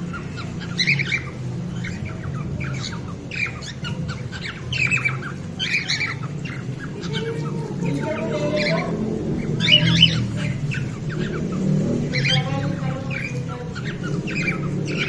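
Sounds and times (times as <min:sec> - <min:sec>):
cockatiels squawking and chattering: 0:00.0 - 0:15.0.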